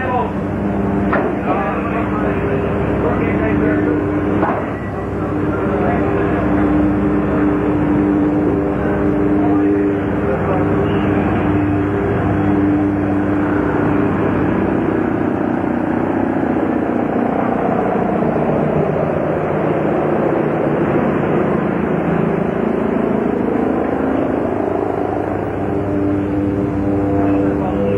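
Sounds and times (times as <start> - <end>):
engine humming: 0.0 - 27.9.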